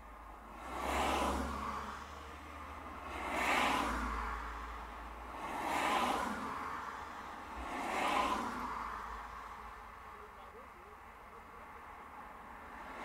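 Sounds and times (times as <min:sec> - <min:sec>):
cars whooshing past: 0:00.2 - 0:10.1, 0:11.7 - 0:13.0.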